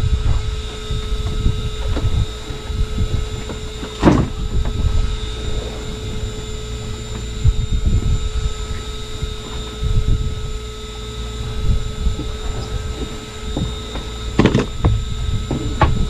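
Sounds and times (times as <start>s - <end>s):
low gusty rumble: 0.0s - 16.0s
steady machine hum: 0.0s - 16.0s.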